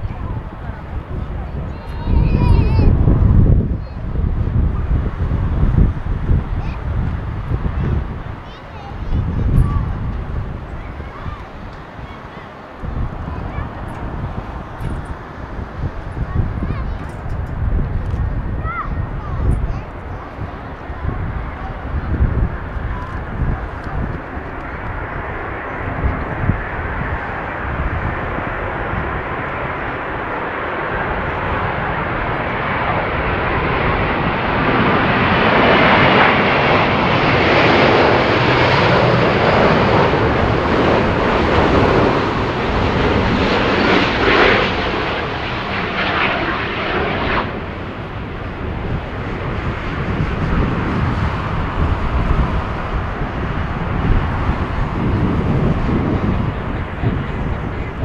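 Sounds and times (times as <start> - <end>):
jet engine roar: 0.0 - 58.0
wind buffeting: 0.0 - 58.0.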